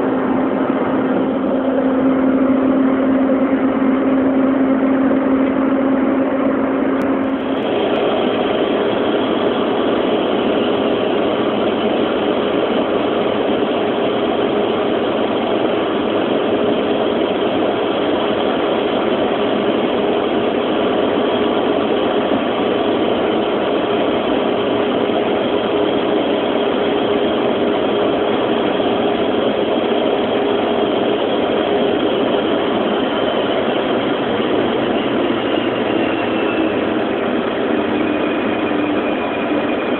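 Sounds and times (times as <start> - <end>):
jet engines humming rush: 0.0 - 39.9.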